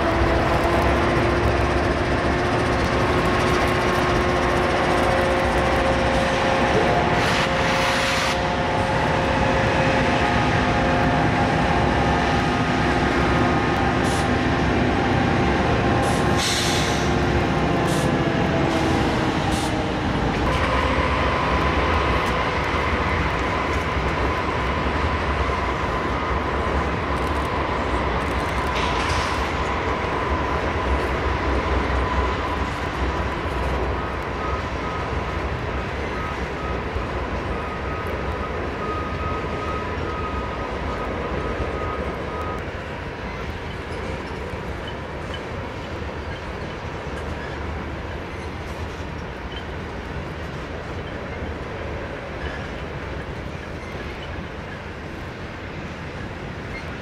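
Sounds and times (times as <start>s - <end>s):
diesel locomotives running: 0.0s - 57.0s
freight train rumbling: 0.0s - 57.0s.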